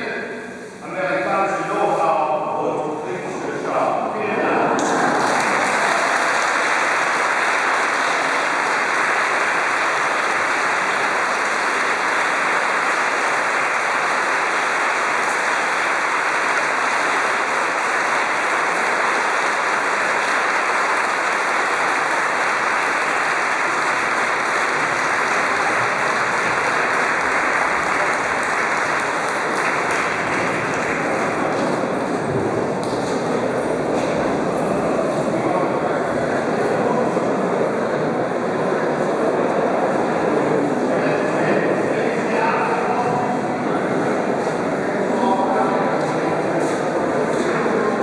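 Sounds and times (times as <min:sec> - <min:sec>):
audience applause: 0:04.4 - 0:48.0.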